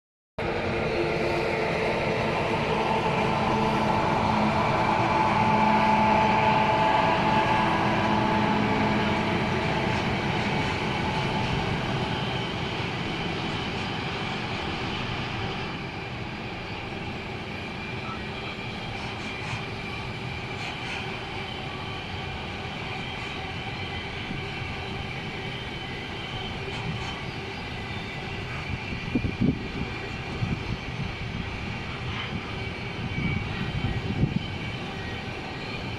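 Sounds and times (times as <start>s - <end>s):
electric train whine: 0.4s - 35.9s.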